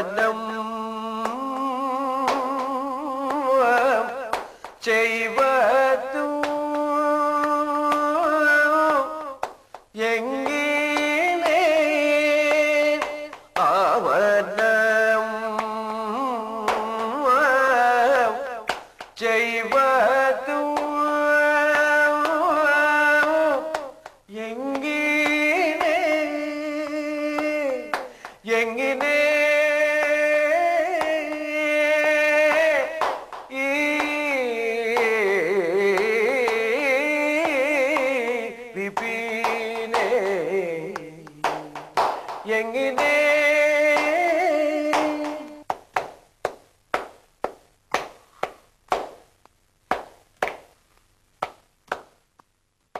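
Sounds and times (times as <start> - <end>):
man singing unaccompanied: 0.0 - 45.7.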